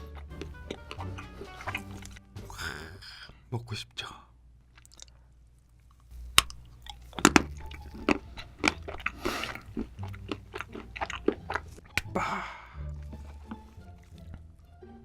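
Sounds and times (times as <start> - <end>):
chocolate crunching: 0.0 - 2.2, 4.7 - 14.8.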